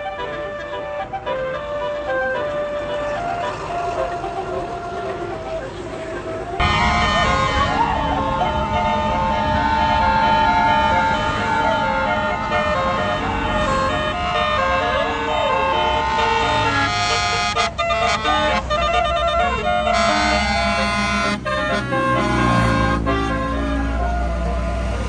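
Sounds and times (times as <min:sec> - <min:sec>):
bus engine low rumble: 0:00.0 - 0:25.0
musical bus horn playing a tune: 0:00.0 - 0:25.0.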